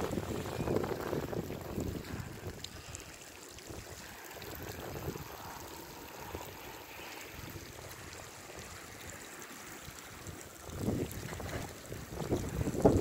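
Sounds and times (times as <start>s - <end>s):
wind buffeting microphone: 0.0s - 9.0s, 10.0s - 13.0s
water trickling into puddle: 0.0s - 13.0s.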